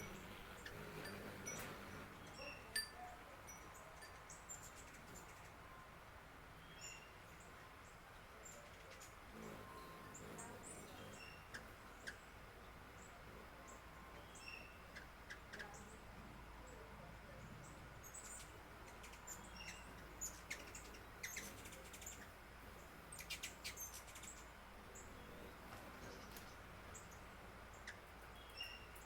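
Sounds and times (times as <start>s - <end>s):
birds chirping: 0.0s - 29.0s
faint background hiss: 0.0s - 29.0s.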